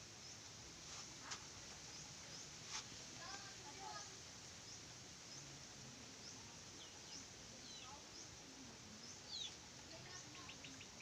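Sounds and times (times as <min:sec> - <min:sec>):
small birds chirping: 0:01.8 - 0:11.0.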